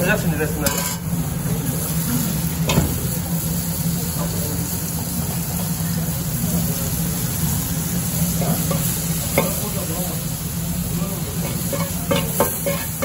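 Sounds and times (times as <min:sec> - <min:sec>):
chickpeas sizzling on a griddle: 0:00.0 - 0:13.0
faint background chatter: 0:00.0 - 0:13.0
metal spoon on griddle: 0:00.0 - 0:13.0.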